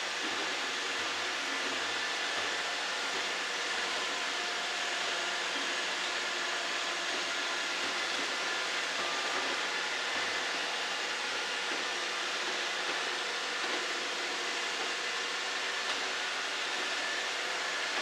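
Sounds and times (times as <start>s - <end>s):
robot vacuums whirring: 0.1s - 18.0s.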